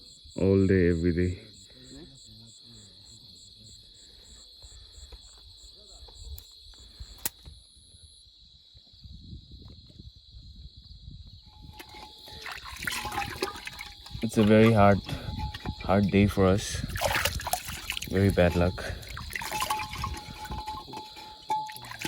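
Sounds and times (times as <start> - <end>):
fast pulsing insect chirp: 0.0 - 22.0
insects chirring in a high trill: 0.0 - 22.0.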